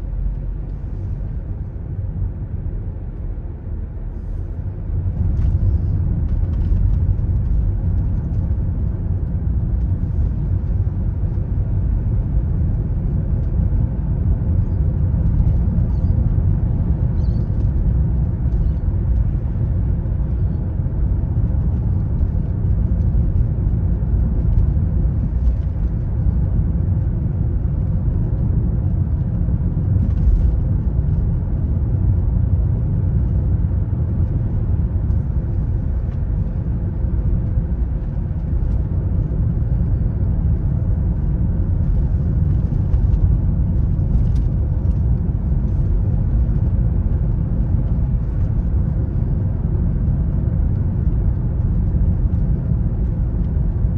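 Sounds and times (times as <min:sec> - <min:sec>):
car road and engine rumble: 0:00.0 - 0:53.9.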